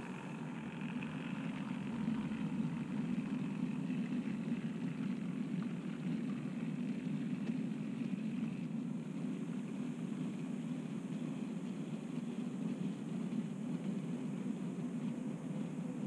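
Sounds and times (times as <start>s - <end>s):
model train wheels rumbling: 0.0s - 16.0s.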